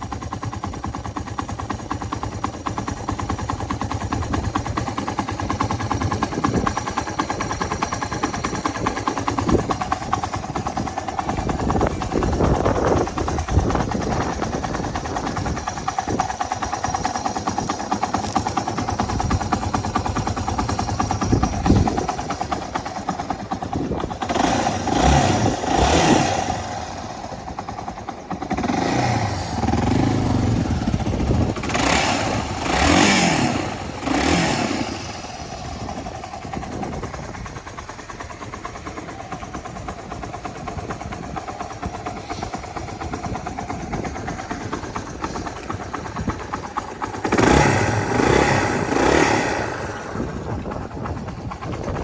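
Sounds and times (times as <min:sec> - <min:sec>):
motorcycle engine idling and revving: 0:00.0 - 0:52.0.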